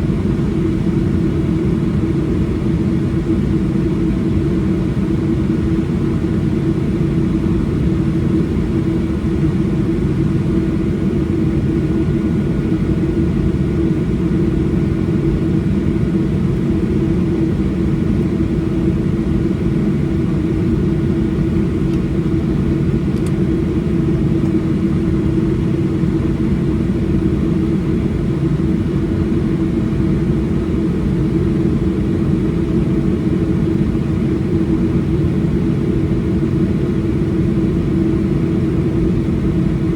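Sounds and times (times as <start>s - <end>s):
jet engine drone in cabin: 0.0s - 39.9s
steady hum: 0.0s - 39.9s.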